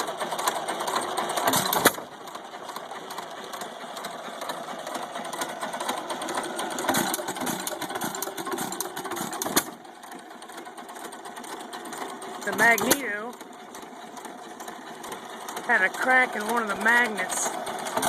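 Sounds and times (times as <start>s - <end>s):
stationary engine clattering: 0.0s - 18.0s.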